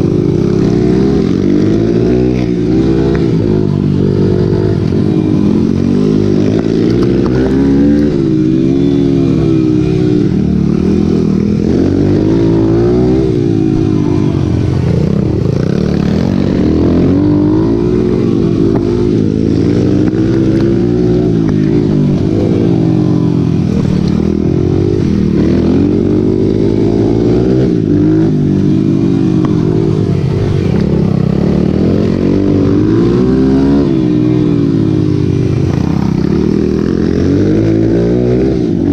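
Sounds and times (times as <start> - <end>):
racing motorcycle engines revving: 0.0 - 38.9.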